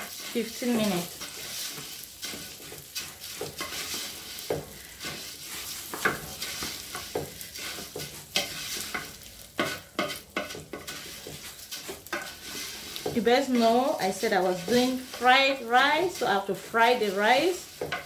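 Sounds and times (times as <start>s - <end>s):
rice and onions sizzling in oil: 0.0s - 18.0s
wooden spatula scraping pot: 0.0s - 18.0s.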